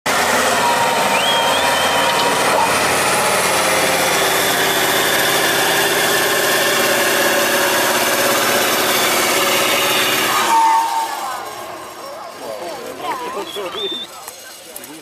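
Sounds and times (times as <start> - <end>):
diesel truck engine working hard: 0.0 - 15.0.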